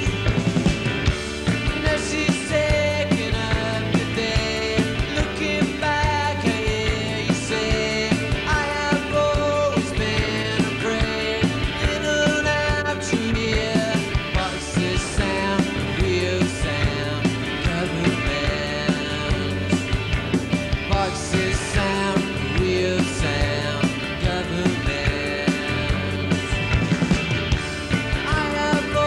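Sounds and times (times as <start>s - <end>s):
drums: 0.0s - 29.0s
electric guitars: 0.0s - 29.0s
person singing: 1.6s - 19.8s, 20.8s - 26.8s, 28.1s - 29.0s.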